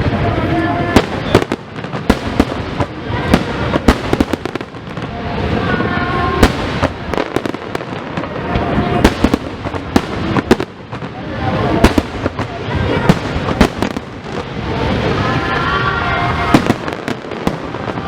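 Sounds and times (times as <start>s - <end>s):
fireworks bangs and pops: 0.9s - 15.7s, 16.4s - 18.0s.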